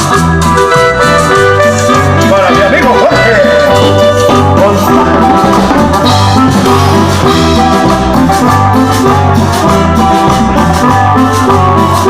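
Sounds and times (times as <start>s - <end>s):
dance band playing: 0.0s - 12.0s.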